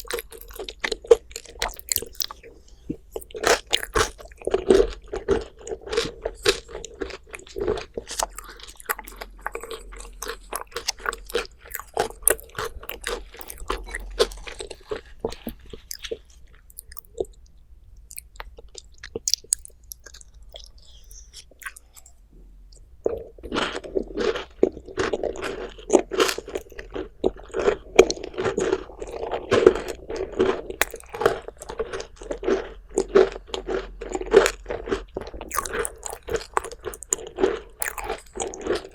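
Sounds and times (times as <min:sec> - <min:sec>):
crunchy chewing: 0:00.0 - 0:17.5, 0:18.1 - 0:38.9.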